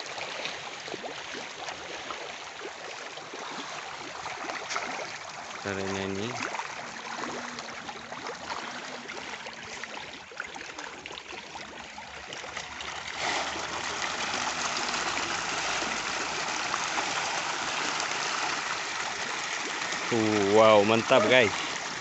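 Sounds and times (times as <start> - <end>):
fish thrashing and splashing: 0.3 - 22.0.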